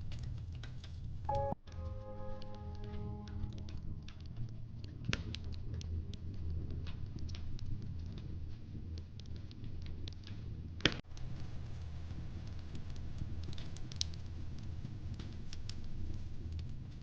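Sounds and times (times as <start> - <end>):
low fire rumble: 3.2 - 17.0.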